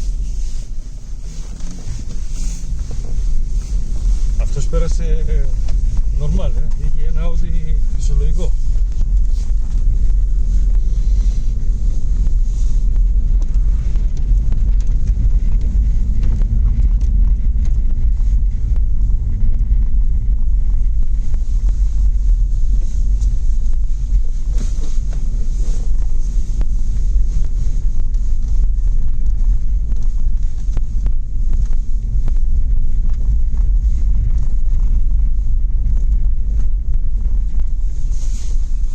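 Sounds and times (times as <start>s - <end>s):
tyres on snowy dirt track: 0.0s - 38.9s
vehicle engine rumble: 0.0s - 38.9s.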